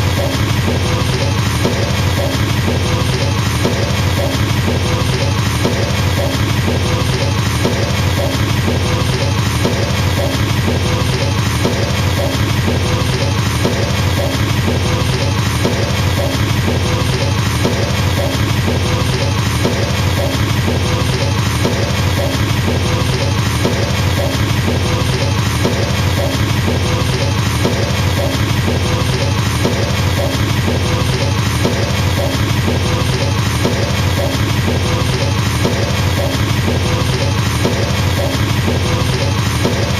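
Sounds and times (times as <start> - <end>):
fast double bass drum kicks: 0.0 - 39.9.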